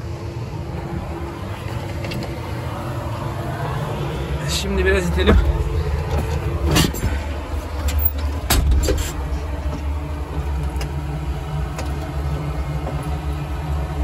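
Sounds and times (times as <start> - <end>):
low machinery hum: 0.0 - 14.0.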